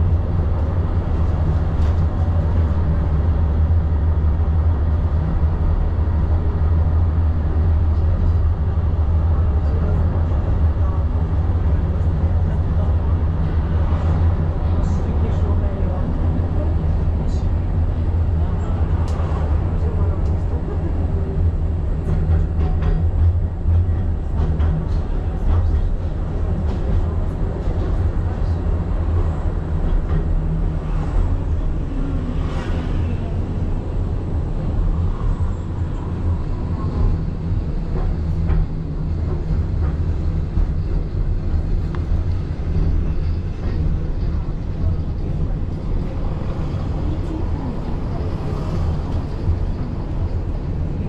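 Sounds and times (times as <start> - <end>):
tram wheels rumbling on rails: 0.0 - 51.0.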